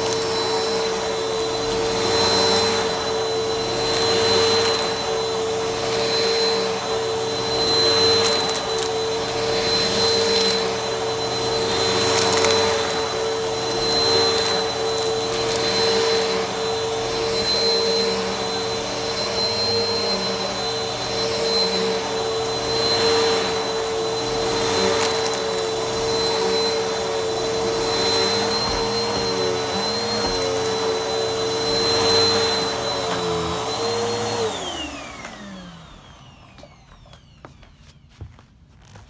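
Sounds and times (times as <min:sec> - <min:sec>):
vacuum cleaner motor whine: 0:00.0 - 0:39.0.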